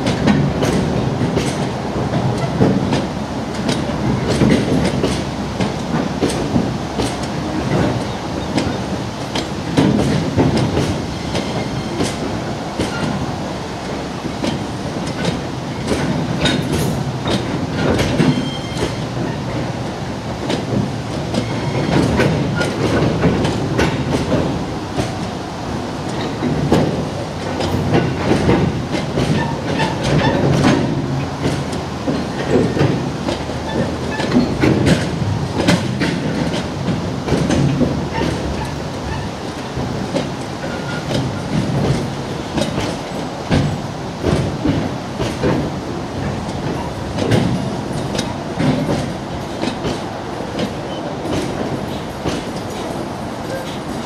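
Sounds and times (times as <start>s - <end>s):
train rumble: 0.0s - 54.0s
train wheels clicking over rail joints: 0.0s - 54.0s.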